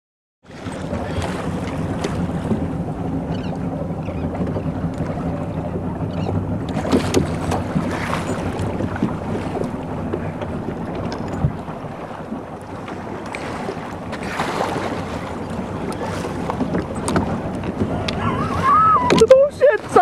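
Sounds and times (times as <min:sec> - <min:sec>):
motorboat engine running: 0:00.4 - 0:20.0
water rushing along hull: 0:00.4 - 0:20.0
wind buffeting microphone: 0:00.6 - 0:20.0.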